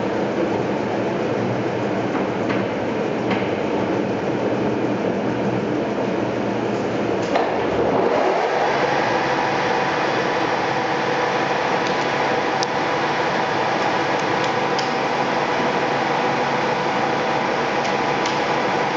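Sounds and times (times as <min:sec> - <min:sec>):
lathe running with gear whine: 0:00.0 - 0:18.9.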